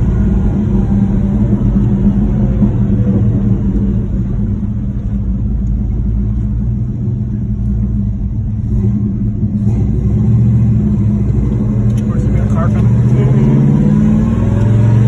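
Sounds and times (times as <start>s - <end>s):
car engine cruising drone: 0.0s - 15.0s.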